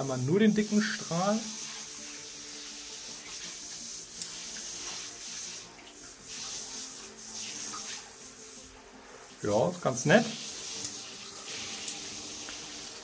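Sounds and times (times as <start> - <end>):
shower water splashing in bathtub: 0.0 - 13.0.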